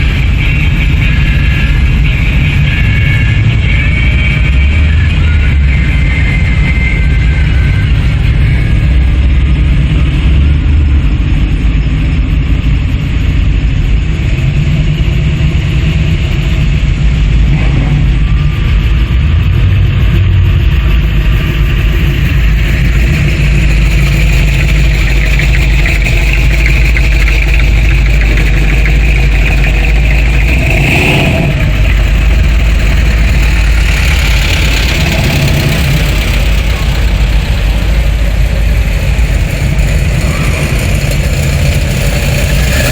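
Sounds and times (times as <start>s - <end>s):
car engines running low rumble: 0.0s - 42.9s.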